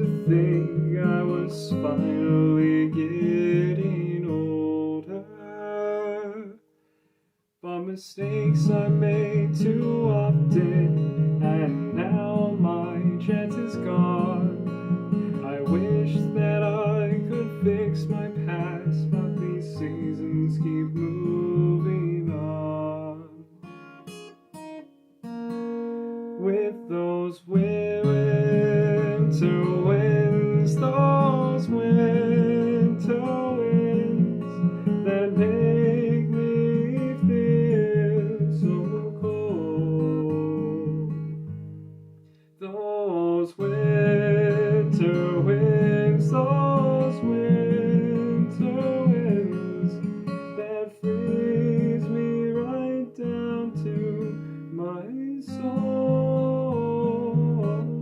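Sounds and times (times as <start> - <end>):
acoustic guitar playing: 0.0 - 7.2, 8.2 - 58.0.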